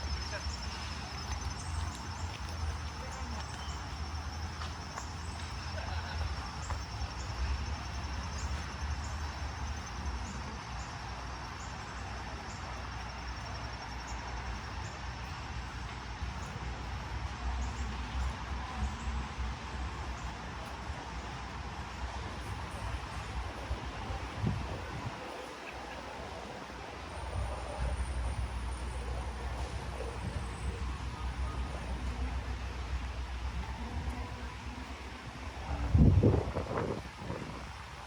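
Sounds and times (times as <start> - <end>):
distant city traffic rumble: 0.0 - 38.0.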